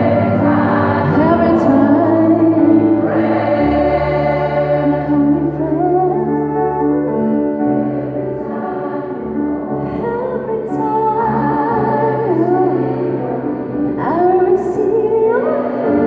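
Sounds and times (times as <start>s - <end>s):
gospel choir singing: 0.0s - 16.0s.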